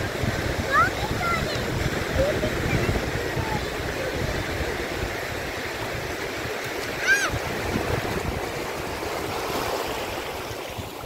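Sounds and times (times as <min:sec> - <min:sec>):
waves washing on sand: 0:00.0 - 0:11.0.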